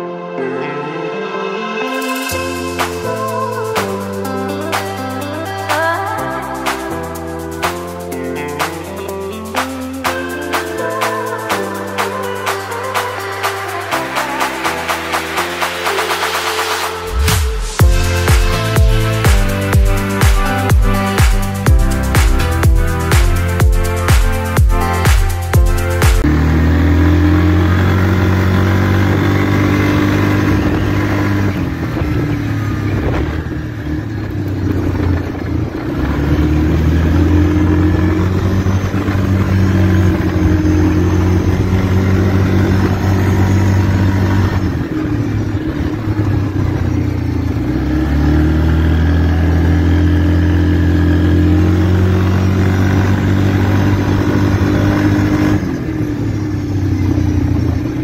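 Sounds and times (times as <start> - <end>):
atv engine running: 2.3 - 58.0.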